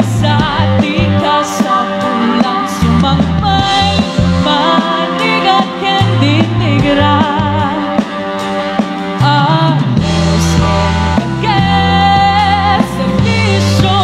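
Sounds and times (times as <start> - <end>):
bass notes: 0.0 - 1.5, 2.1 - 14.0
woman singing: 0.0 - 8.4, 9.0 - 14.0
drums: 0.0 - 14.0.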